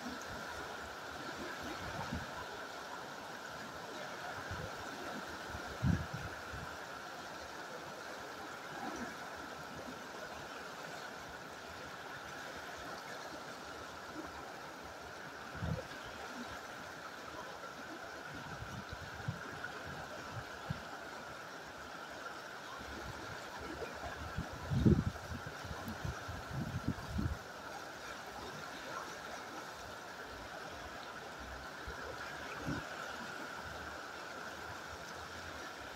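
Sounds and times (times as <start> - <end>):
river rapids rushing: 0.0 - 35.9.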